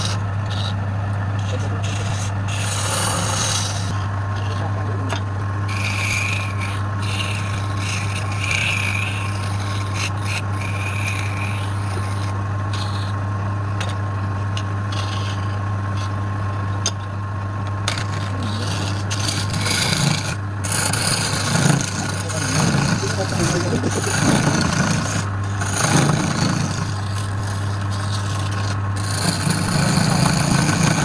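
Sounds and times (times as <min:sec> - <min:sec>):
turning tool scraping wood: 0:00.0 - 0:13.2, 0:14.6 - 0:31.0
wood lathe humming: 0:00.0 - 0:31.0.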